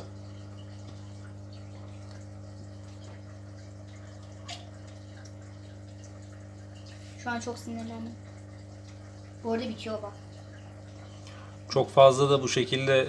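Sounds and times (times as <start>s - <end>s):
bubbling trickling water: 0.0s - 13.0s
low pump hum: 0.0s - 13.0s.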